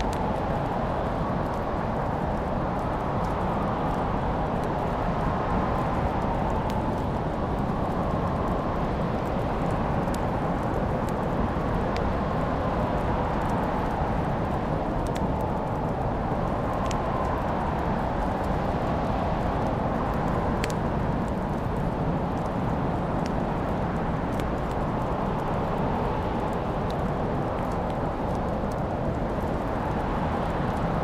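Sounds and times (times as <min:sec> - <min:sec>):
fire crackling and popping: 0:00.0 - 0:31.0
wood fire low rush: 0:00.0 - 0:31.0.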